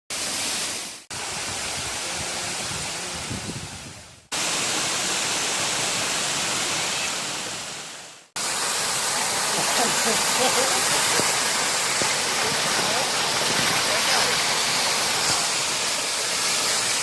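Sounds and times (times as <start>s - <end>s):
waterfall rushing water: 0.1s - 17.0s.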